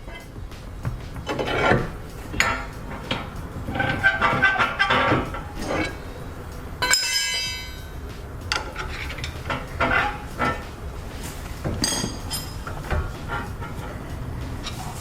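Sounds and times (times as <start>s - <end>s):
hammer striking steel: 0.0s - 13.8s
light metal clanks: 0.0s - 15.0s.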